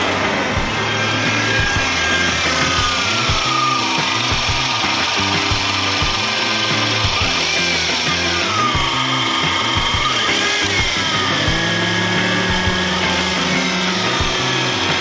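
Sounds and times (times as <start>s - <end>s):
car engine running: 0.0s - 15.0s
grinding rubbing noise: 0.0s - 15.0s
wavering squeal: 0.0s - 15.0s.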